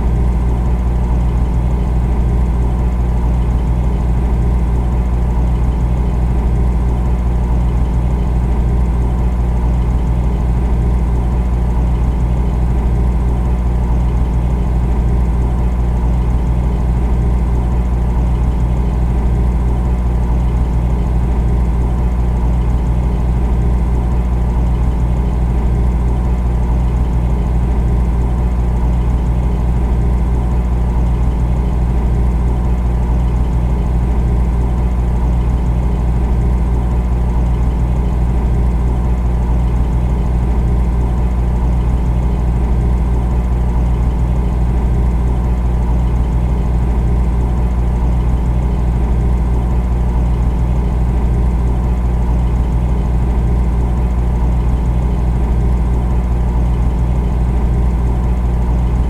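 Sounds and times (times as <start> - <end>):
refrigerator hum: 0.0 - 59.0.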